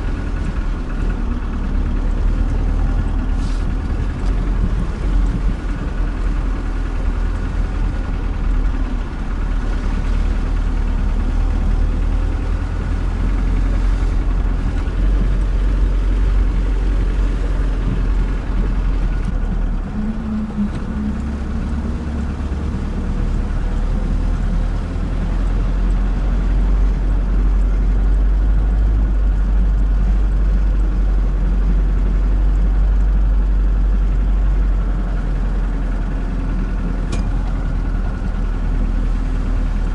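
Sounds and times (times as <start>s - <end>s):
van engine running: 0.0s - 39.9s.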